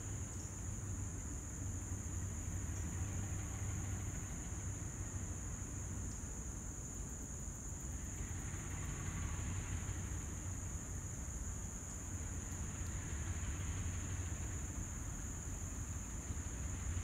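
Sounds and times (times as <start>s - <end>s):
distant locomotive rumble: 0.0s - 6.5s, 7.9s - 17.0s
insect drone: 0.0s - 17.0s.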